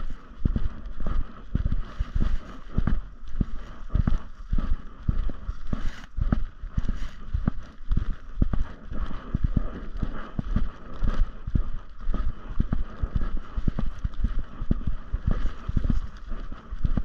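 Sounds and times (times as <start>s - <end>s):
footsteps on dirt trail: 0.0s - 17.0s.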